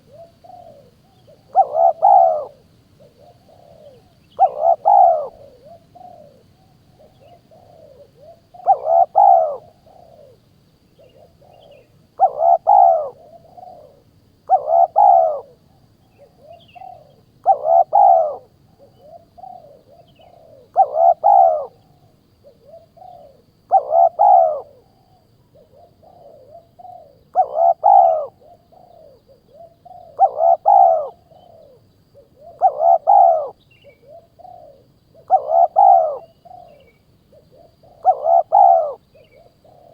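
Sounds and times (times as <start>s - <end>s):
bird call with arching notes: 0.0s - 2.6s, 3.4s - 6.4s, 7.1s - 10.4s, 11.1s - 15.6s, 16.2s - 21.9s, 22.7s - 24.8s, 27.3s - 31.8s, 32.5s - 39.9s.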